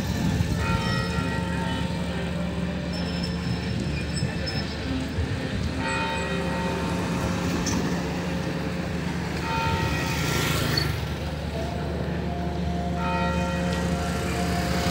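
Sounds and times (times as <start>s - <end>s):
traffic engine hum: 0.0s - 14.9s.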